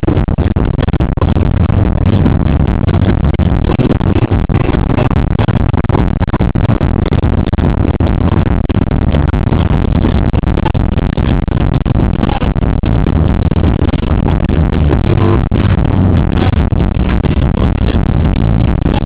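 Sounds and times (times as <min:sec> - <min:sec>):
distorted road and engine noise: 0:00.0 - 0:19.0
electronic music: 0:00.0 - 0:19.0.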